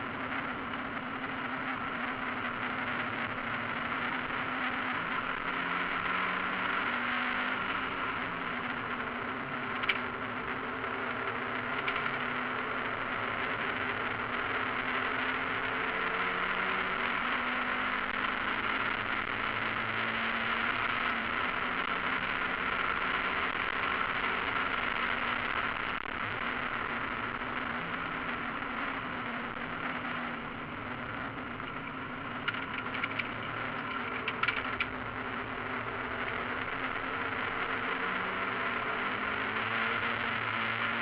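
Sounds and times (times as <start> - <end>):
race car engine running hard: 0.0 - 41.0
wind and road noise: 0.0 - 41.0.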